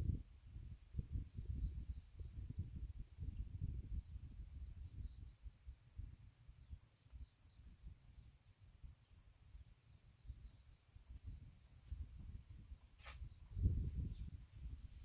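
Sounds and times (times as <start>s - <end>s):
high insect hum: 0.1s - 15.0s.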